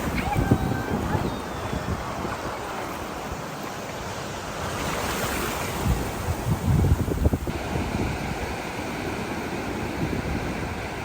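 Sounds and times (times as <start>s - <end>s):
wind buffeting microphone: 0.0s - 3.3s, 5.4s - 11.0s
ocean surf washing on shore: 0.0s - 11.0s.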